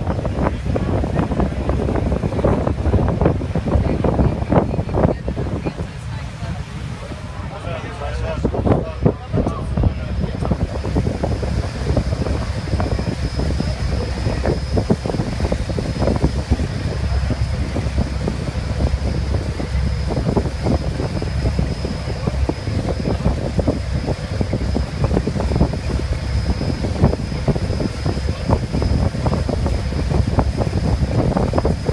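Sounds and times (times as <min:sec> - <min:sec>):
boat engine rumble: 0:00.0 - 0:31.9
water washing along hull: 0:00.0 - 0:31.9
wind buffeting microphone: 0:00.0 - 0:31.9.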